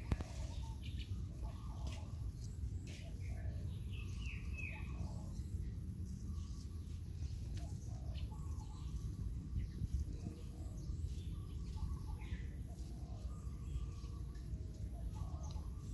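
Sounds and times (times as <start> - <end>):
bird chirps: 0.0 - 15.9
steady low rumble: 0.0 - 15.9.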